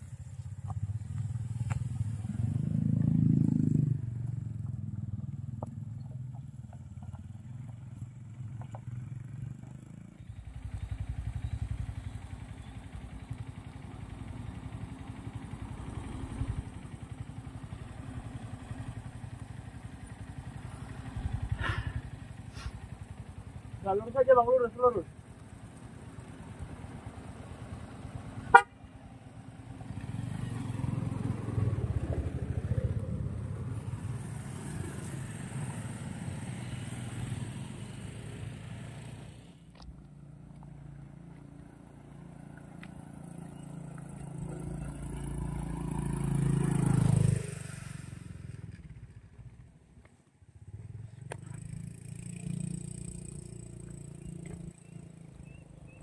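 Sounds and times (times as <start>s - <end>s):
vehicle engines running: 0.0s - 56.0s.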